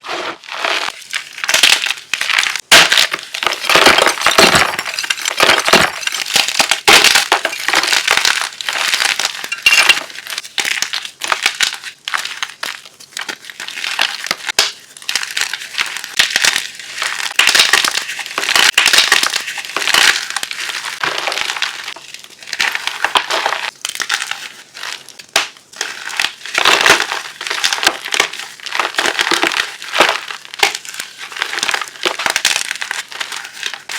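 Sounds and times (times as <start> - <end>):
chalk being crushed: 0.0 - 33.9.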